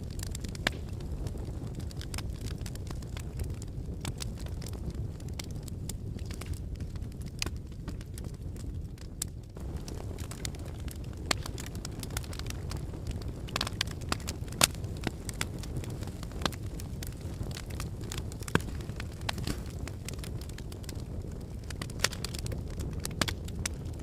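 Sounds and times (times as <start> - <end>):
flames rumbling: 0.0 - 24.0
logs crackling and popping: 0.0 - 24.0.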